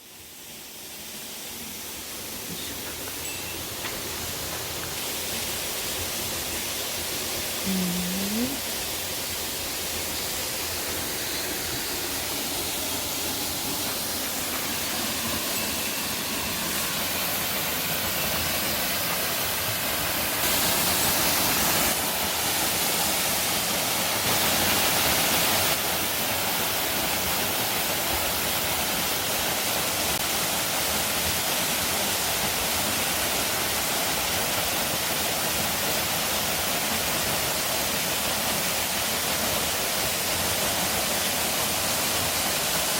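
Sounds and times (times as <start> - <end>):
waterfall rushing: 0.2 - 7.7, 8.4 - 42.9.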